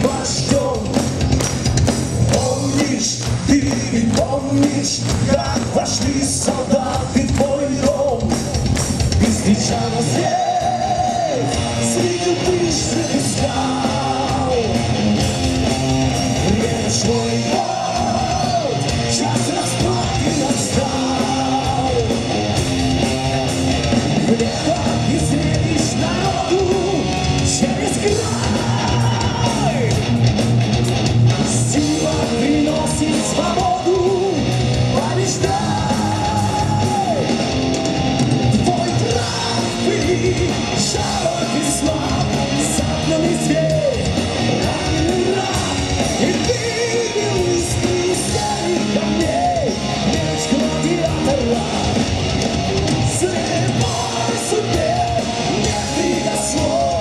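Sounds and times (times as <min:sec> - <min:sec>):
man singing: 0:00.0 - 0:01.1, 0:02.3 - 0:08.5, 0:09.1 - 0:14.9, 0:16.3 - 0:22.2, 0:24.2 - 0:30.0, 0:31.4 - 0:37.4, 0:38.6 - 0:52.2, 0:53.0 - 0:57.0
heavy metal band playing live: 0:00.0 - 0:57.0.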